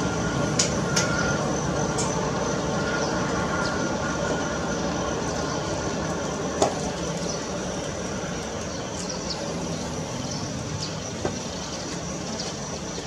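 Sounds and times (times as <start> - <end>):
jet engines rumbling and whining: 0.0 - 13.0.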